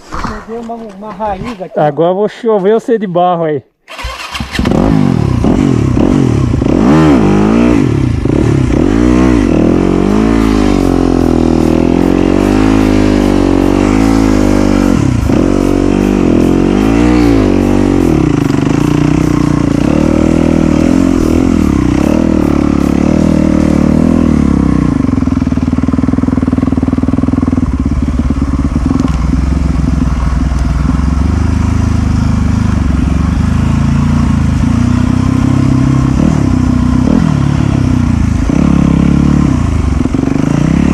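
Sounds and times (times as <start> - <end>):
dirt bike engine revving: 3.9 - 40.9.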